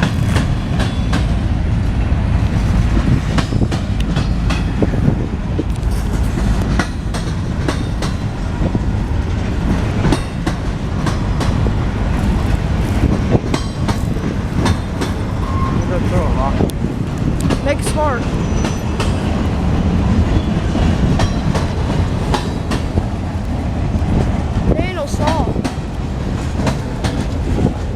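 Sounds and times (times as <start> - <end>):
freight train rumbling past: 0.0 - 27.9
wheels clacking over rail joints: 0.0 - 27.9.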